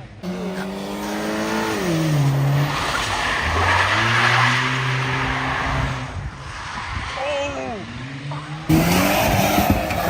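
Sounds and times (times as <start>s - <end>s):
car engine revving: 0.2s - 6.3s, 7.8s - 10.0s.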